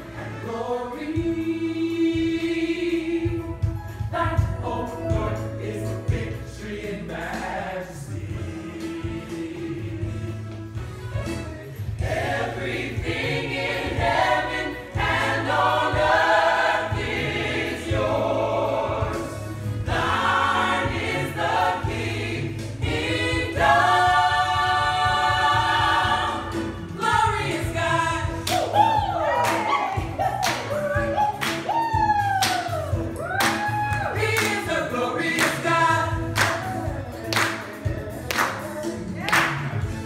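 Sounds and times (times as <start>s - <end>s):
gospel choir singing: 0.0s - 40.0s.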